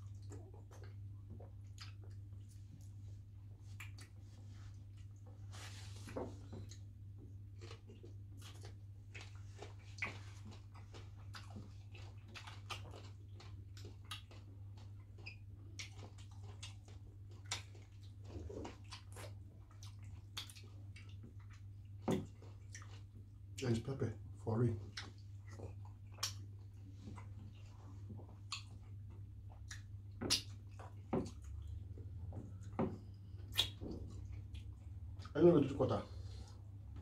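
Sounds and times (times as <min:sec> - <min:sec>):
fingers squishing through food: 0:00.0 - 0:05.2, 0:06.4 - 0:23.6, 0:24.8 - 0:35.7
wet chewing and lip smacks: 0:00.0 - 0:24.1, 0:24.7 - 0:35.4.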